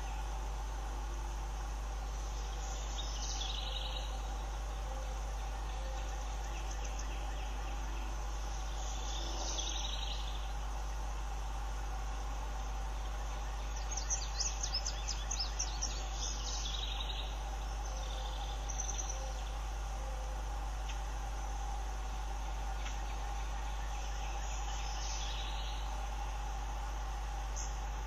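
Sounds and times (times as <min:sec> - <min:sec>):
small birds chirping: 0:00.0 - 0:28.0
steady background hum: 0:00.0 - 0:28.0.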